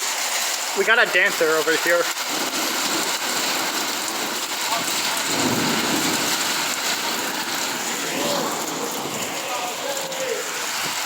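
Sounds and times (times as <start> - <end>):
heavy rain downpour: 0.0 - 11.0.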